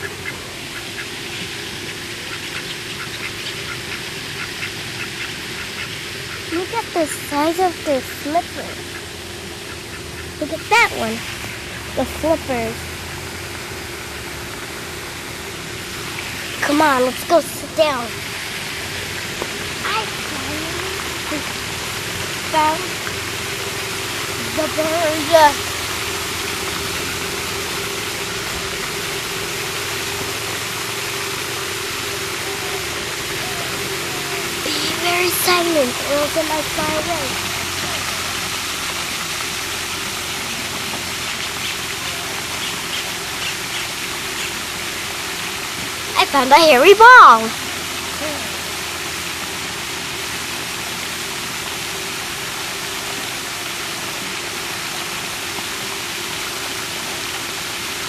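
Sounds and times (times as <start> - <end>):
mechanical hum: 0.0 - 58.0
running water rushing: 0.0 - 58.0.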